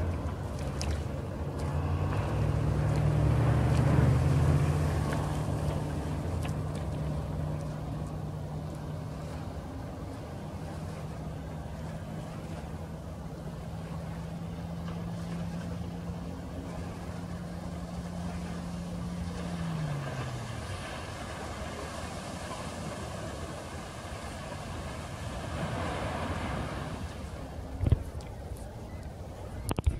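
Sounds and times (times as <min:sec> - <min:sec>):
outboard motor passing: 0:00.0 - 0:29.9
rush of hull and spray: 0:00.0 - 0:29.9.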